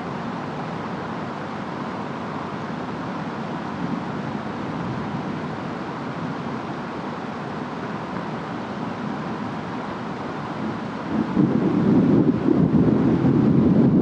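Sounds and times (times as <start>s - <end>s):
rainstorm with wind: 0.0s - 14.0s.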